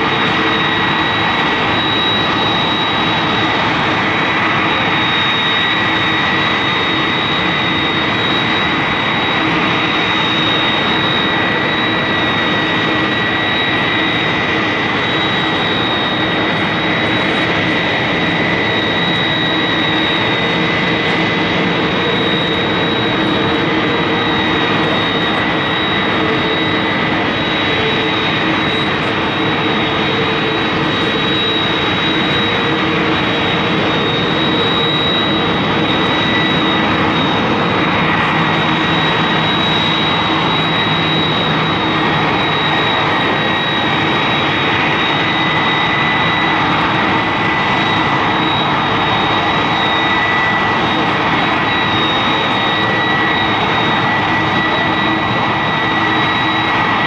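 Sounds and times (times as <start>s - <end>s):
high steady engine whine: 0.0s - 57.0s
jet engines running: 0.0s - 57.0s.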